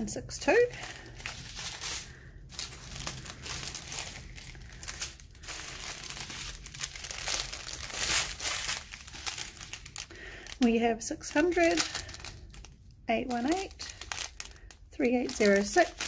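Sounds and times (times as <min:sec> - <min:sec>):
plastic bags and film crinkling: 0:00.2 - 0:16.0.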